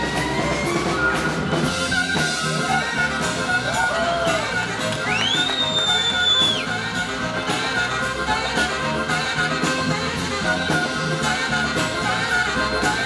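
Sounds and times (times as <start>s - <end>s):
amplified harmonica: 0.0s - 13.0s
live blues band playing: 0.0s - 13.0s
tenor saxophone: 0.0s - 13.0s.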